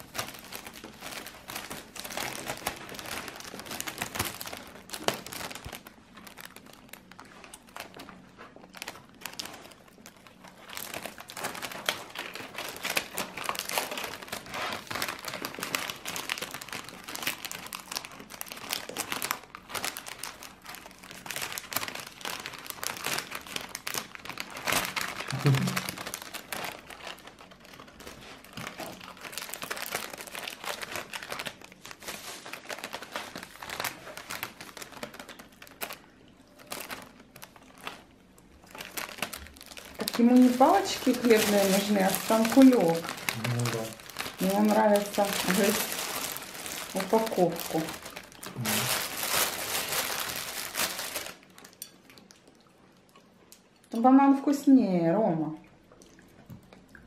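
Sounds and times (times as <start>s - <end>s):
plastic packaging crinkling: 0.0s - 52.6s.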